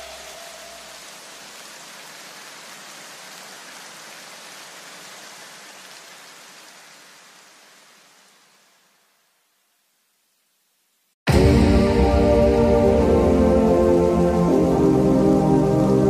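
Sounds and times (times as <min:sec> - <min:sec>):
rain-like noise wash: 0:00.0 - 0:16.0.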